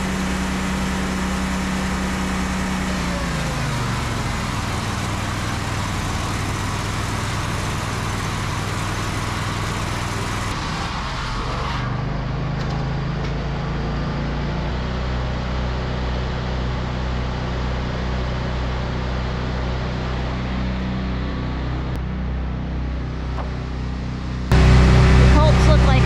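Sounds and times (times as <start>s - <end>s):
sawmill engine running: 0.0s - 26.0s.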